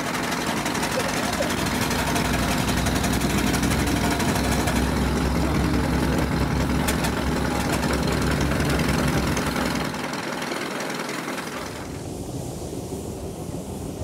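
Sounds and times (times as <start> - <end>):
engine idling: 0.0 - 12.1.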